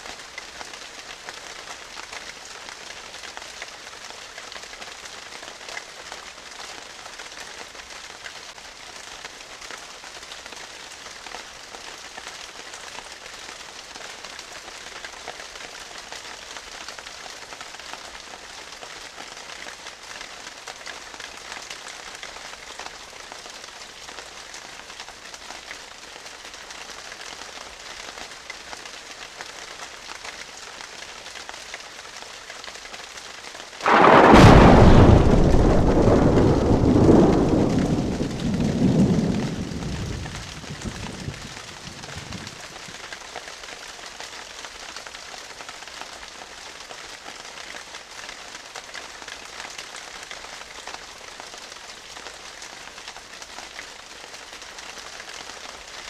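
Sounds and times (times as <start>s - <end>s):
steady hiss with crackle: 0.0s - 56.0s.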